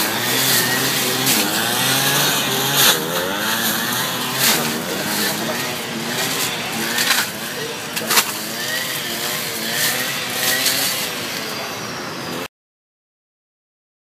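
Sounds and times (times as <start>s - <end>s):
brush cutter engine running: 0.0s - 12.4s.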